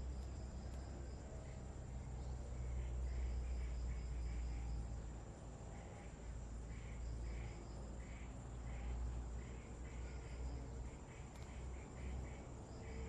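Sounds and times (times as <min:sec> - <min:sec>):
insect chirping call: 0:00.0 - 0:13.0.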